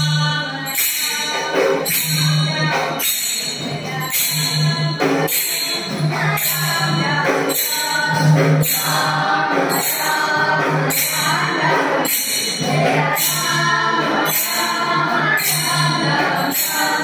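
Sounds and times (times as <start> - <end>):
group singing a chant: 0.0 - 17.0
tambourine and cymbal jingles: 0.0 - 17.0.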